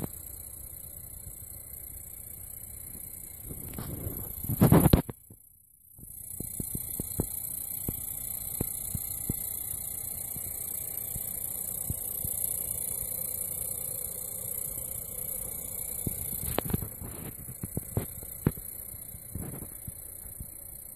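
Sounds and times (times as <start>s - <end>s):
game console buzzing hum: 0.0s - 5.3s, 6.0s - 20.9s.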